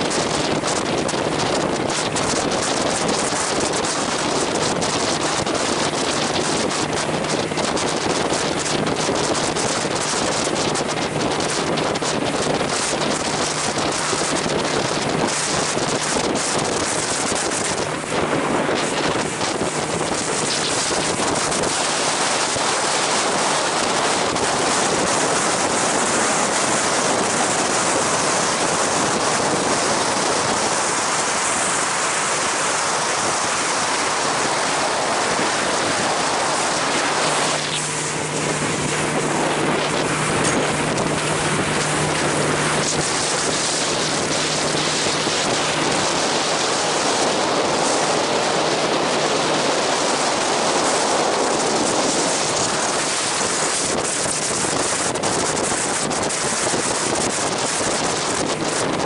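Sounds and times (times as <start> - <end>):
low engine hum: 0.0 - 53.4
water rushing past boat hull: 0.0 - 59.0
wind buffeting microphone: 0.0 - 59.0.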